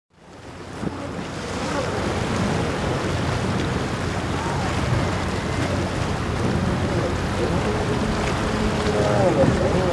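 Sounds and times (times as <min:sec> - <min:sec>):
choppy sea wash: 0:00.1 - 0:09.9
waves breaking against rocks: 0:00.2 - 0:09.9
wind buffeting microphone: 0:00.4 - 0:09.9.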